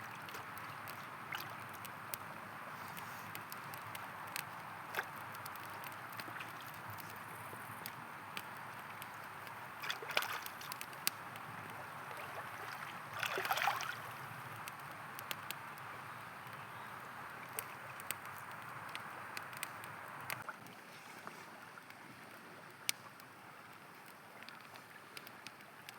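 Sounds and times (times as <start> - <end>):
campfire crackling: 0.0 - 25.9
river water flowing: 0.0 - 25.9.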